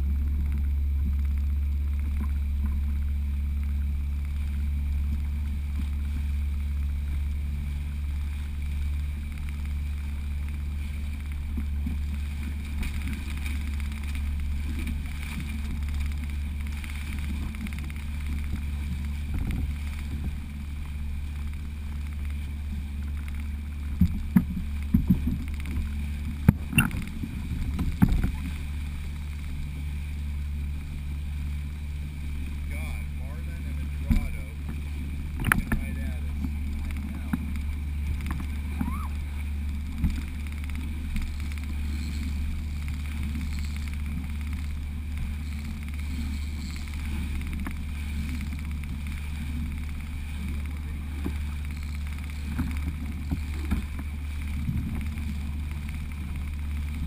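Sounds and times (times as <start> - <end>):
outboard motor running: 0.0 - 57.0
water noise: 0.0 - 57.0.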